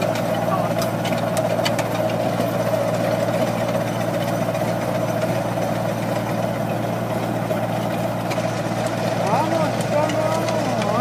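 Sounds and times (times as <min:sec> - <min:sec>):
rotary ditcher cutting soil: 0:00.0 - 0:11.0
tractor engine running: 0:00.0 - 0:11.0.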